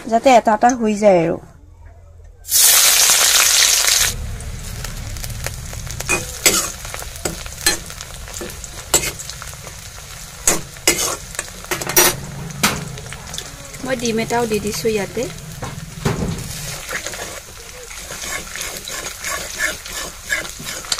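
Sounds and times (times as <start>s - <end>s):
onions sizzling in a wok: 2.5s - 20.9s.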